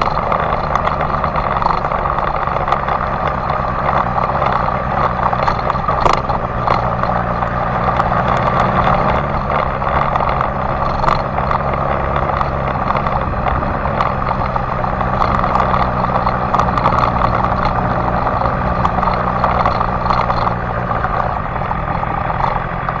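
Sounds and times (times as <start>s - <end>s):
motorcycle engine running: 0.0s - 23.0s
small clicks: 0.0s - 23.0s.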